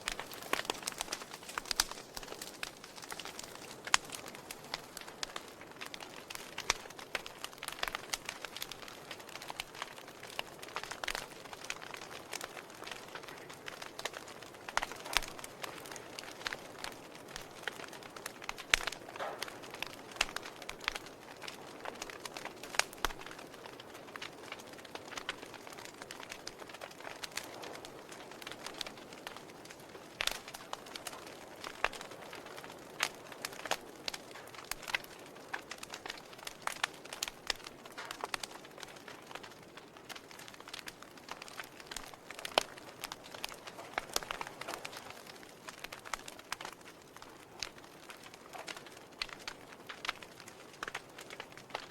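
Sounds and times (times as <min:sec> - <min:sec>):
logs crackling in fireplace: 0:00.0 - 0:51.9.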